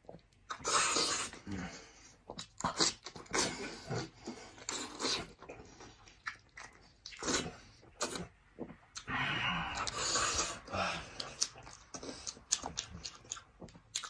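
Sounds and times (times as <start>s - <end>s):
wet chewing and lip-smacking: 0.0s - 1.6s, 2.2s - 9.1s, 9.7s - 14.0s.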